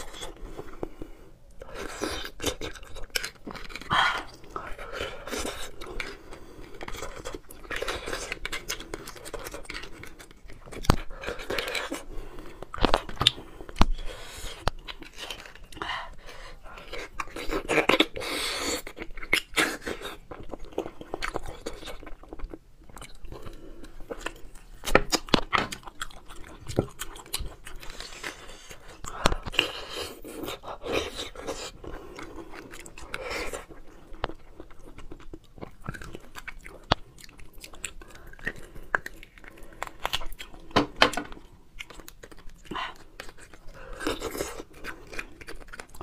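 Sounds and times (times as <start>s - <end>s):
close chewing and biting: 0.0s - 46.0s.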